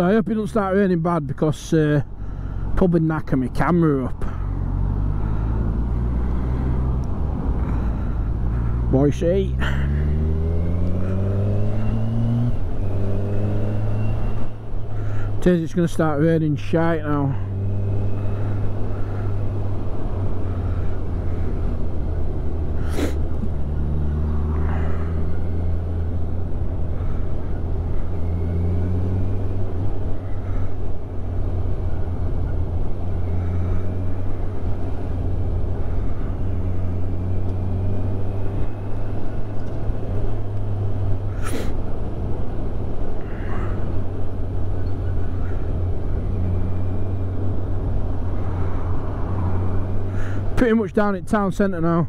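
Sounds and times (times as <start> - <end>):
wind and road rumble: 0.0 - 52.0.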